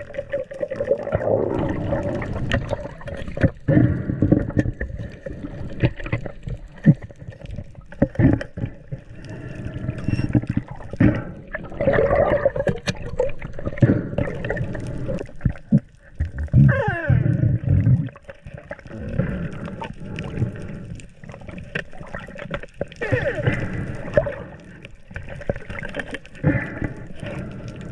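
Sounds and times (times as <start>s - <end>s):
gurgling water underwater: 0.0s - 27.9s.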